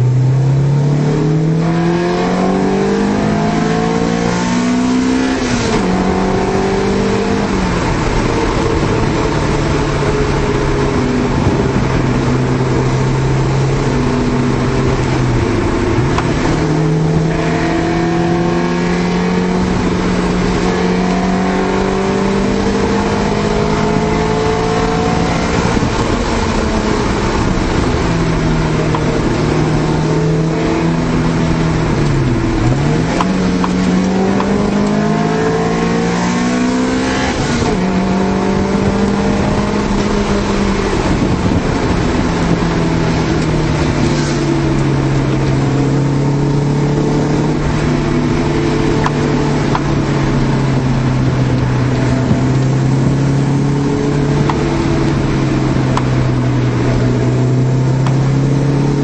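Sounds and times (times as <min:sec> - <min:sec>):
car engine from inside cabin: 0:00.0 - 0:59.0
road and wind noise: 0:00.0 - 0:59.0.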